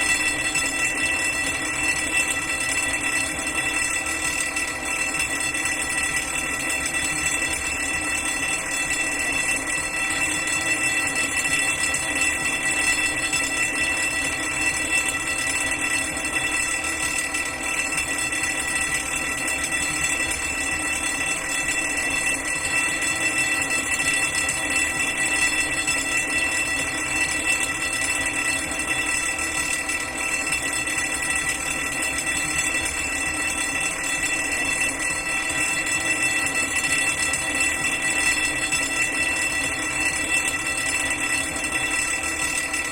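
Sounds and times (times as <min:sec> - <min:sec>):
fire alarm bell ringing: 0:00.0 - 0:42.9.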